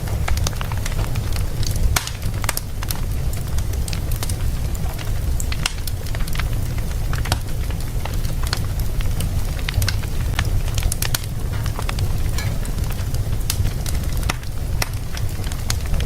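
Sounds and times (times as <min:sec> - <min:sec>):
fire rumbling: 0:00.0 - 0:16.0
wood fire crackling and popping: 0:00.0 - 0:16.0.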